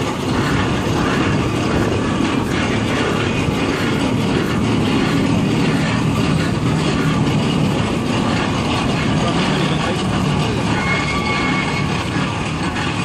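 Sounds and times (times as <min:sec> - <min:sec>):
steam traction engine rumbling: 0:00.0 - 0:13.0
wheels rolling on road: 0:00.0 - 0:13.0.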